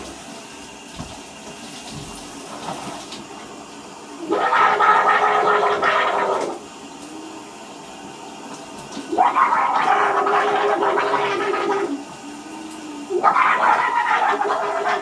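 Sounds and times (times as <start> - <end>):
shower water running: 0.0 - 15.0.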